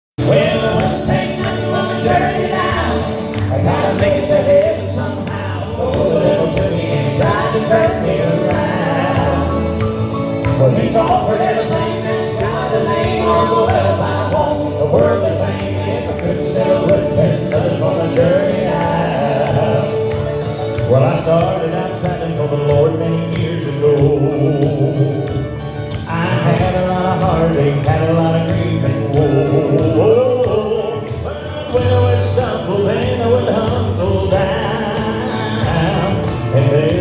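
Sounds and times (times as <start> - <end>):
gospel music: 0.2 - 37.0
steady bass line: 0.2 - 37.0.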